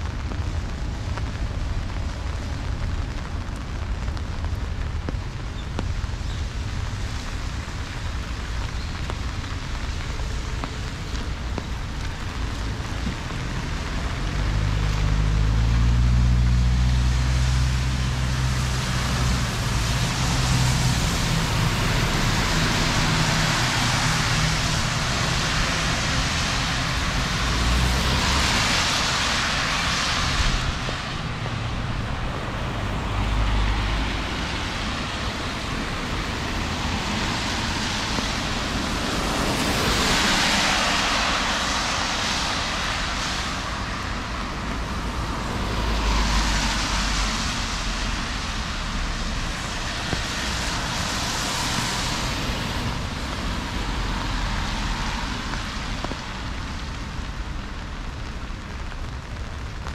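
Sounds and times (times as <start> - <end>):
engine rumble: 0.0 - 59.9
heavy rain falling: 0.0 - 59.9
tyres hissing on wet road: 0.0 - 59.9.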